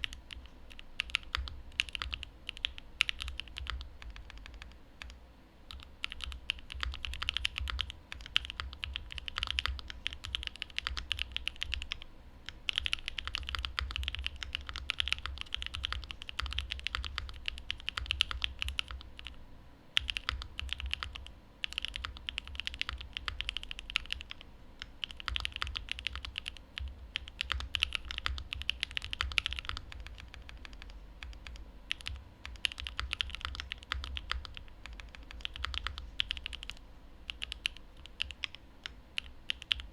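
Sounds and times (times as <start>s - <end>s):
mechanical keyboard typing: 0.0s - 19.4s, 20.0s - 39.9s.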